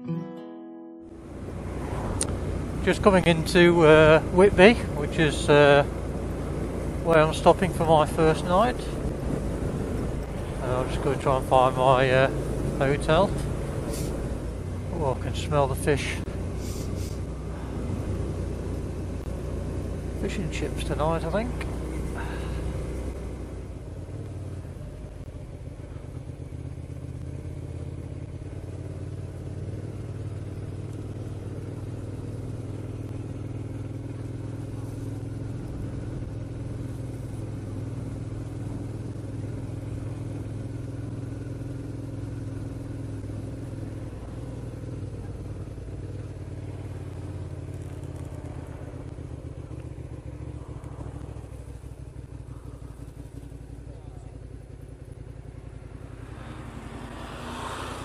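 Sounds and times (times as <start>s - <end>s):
motorcycle engine running: 1.1s - 58.0s.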